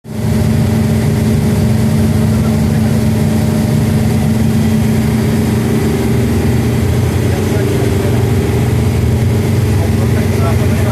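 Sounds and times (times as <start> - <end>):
diesel engine droning: 0.1 - 10.9.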